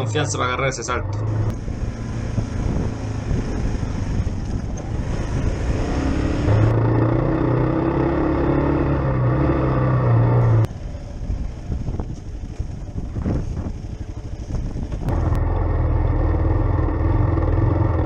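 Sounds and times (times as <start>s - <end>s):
motorcycle engine running: 0.9s - 18.0s.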